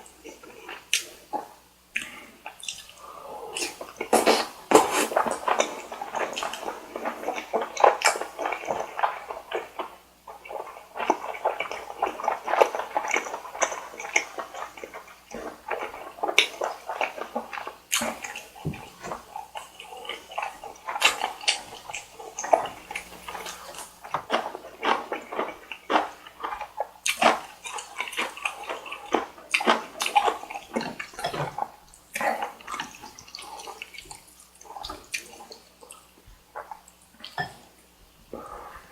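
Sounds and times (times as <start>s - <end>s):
wet chewing and mouth smacking: 0.3s - 3.0s, 3.6s - 37.7s.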